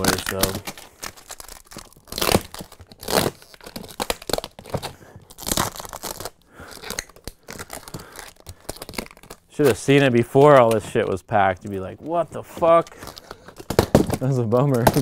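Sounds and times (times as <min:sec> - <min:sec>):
plastic rustling and crinkling: 0:00.0 - 0:15.0
plastic scraping: 0:00.0 - 0:15.0.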